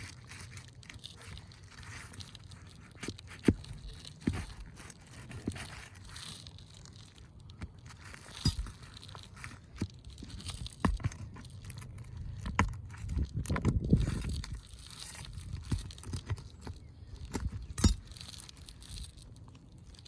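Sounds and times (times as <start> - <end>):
metal tool prying roof shingles: 0.0 - 7.0, 7.6 - 19.2
shingles scraping and crackling: 0.0 - 20.0.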